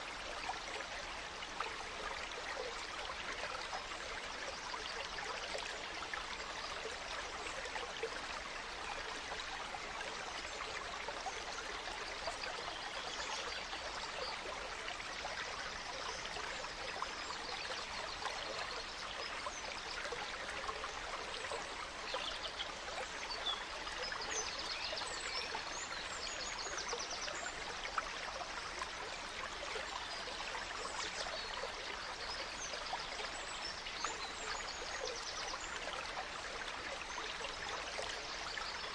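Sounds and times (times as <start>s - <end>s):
stream running: 0.0s - 38.9s.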